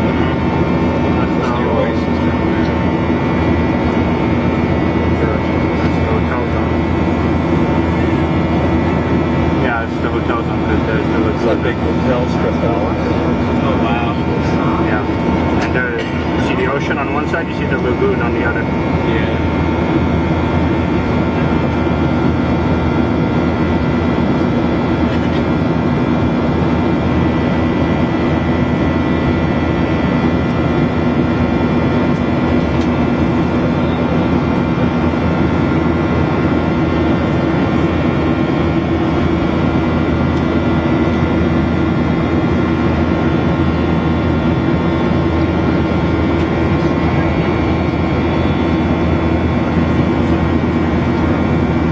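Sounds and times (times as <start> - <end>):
aircraft cabin engine drone: 0.0 - 51.9.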